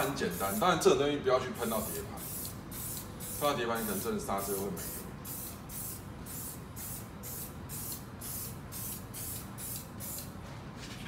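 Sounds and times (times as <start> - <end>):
aerosol spray hissing bursts: 0.0 - 0.7, 1.6 - 10.3.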